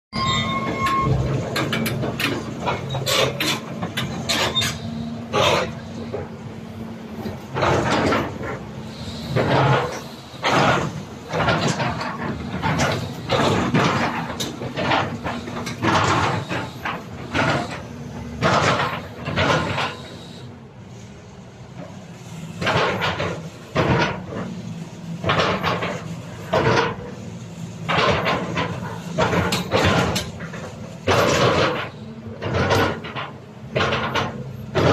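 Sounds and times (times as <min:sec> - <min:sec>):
excavator arm clanks and creaks: 0:00.2 - 0:20.9, 0:21.5 - 0:34.9
excavator diesel engine running: 0:00.2 - 0:34.9.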